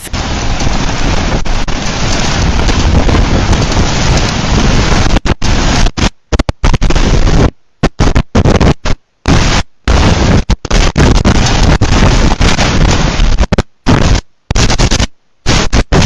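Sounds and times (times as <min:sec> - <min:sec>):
rain on microphone: 0:00.0 - 0:16.0
storm wind roaring: 0:00.0 - 0:16.0.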